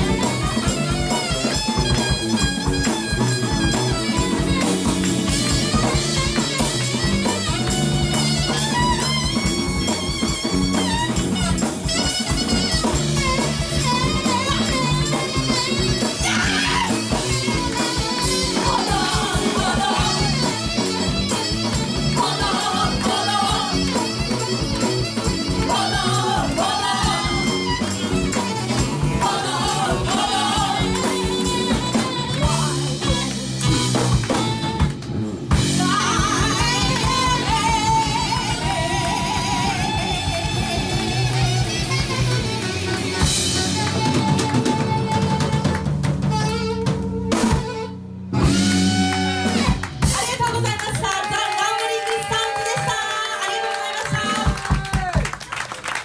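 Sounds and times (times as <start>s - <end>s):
drum kit: 0.0s - 51.1s, 54.0s - 55.4s
guitar lead line: 0.0s - 51.2s
saxophone: 0.0s - 51.2s
bass: 0.0s - 51.6s.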